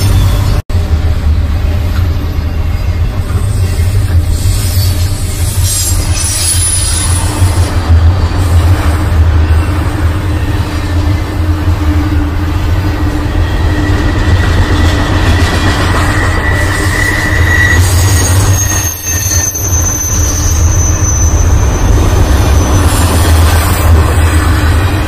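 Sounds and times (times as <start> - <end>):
high wheel squeal: 0.0 - 0.6, 2.0 - 25.0
steel wheels rumbling on rails: 0.0 - 25.0.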